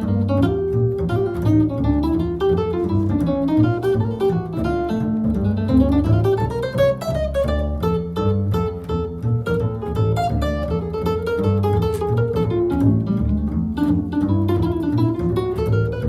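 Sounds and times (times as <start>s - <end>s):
jazz guitar solo: 0.0s - 16.0s
plucked bass notes: 0.0s - 16.0s.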